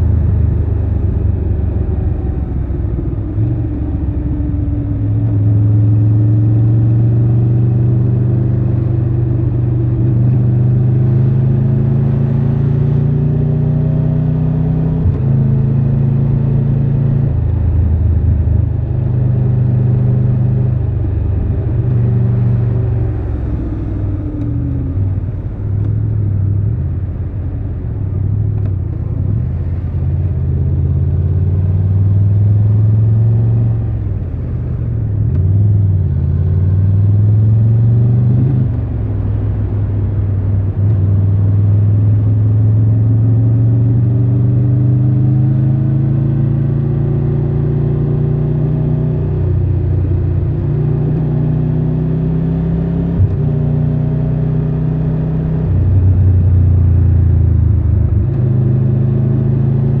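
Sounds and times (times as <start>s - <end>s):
motorcycle engine while riding: 0.0s - 60.0s.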